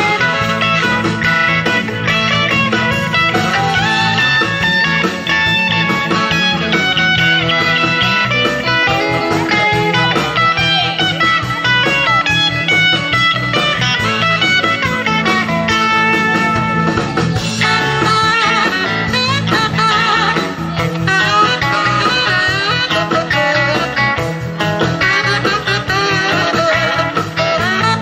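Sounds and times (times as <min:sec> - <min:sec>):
country-rock band playing: 0:00.0 - 0:28.0
lead guitar bending notes: 0:00.0 - 0:28.0.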